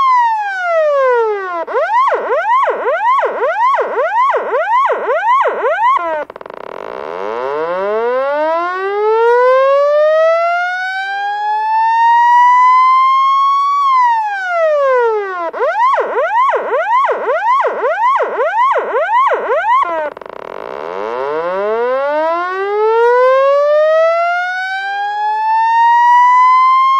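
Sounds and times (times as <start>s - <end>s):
police siren wailing and yelping: 0.0s - 6.3s, 7.0s - 26.9s.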